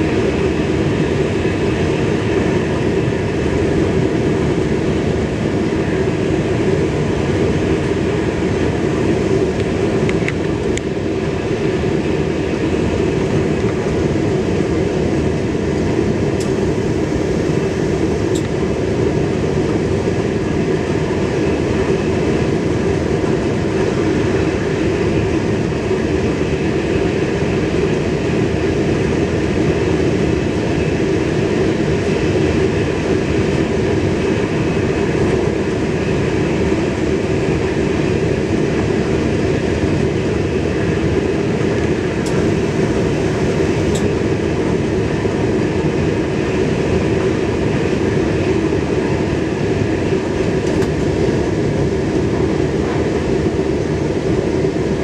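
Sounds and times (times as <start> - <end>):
electric train running at speed: 0.0 - 55.0.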